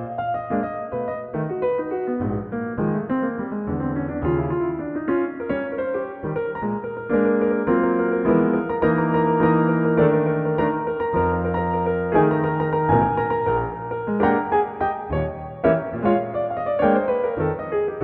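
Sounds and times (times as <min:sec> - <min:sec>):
jazz piano improvisation: 0:00.0 - 0:18.0.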